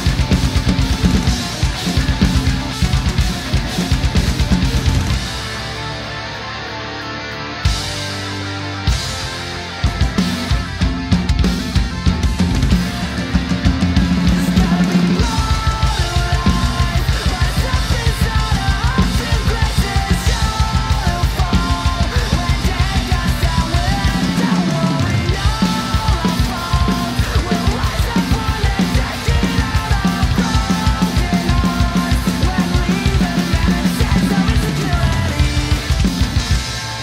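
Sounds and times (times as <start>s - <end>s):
drum kit playing: 0.0s - 37.0s
rock song backing track: 0.0s - 37.0s.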